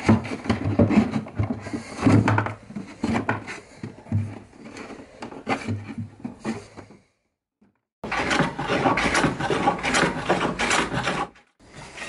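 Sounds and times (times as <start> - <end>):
wooden knocks and scraping: 0.0 - 7.1, 7.7 - 12.0.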